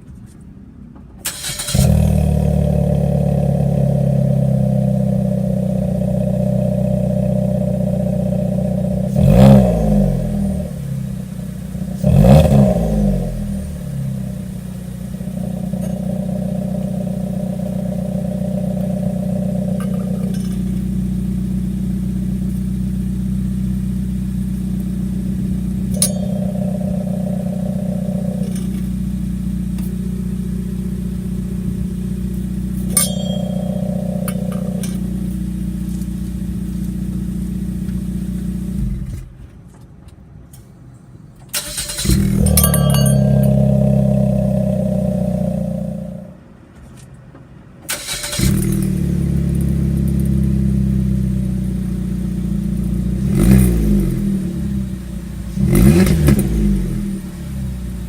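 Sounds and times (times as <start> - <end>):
vehicle engine idling: 1.2 - 58.0.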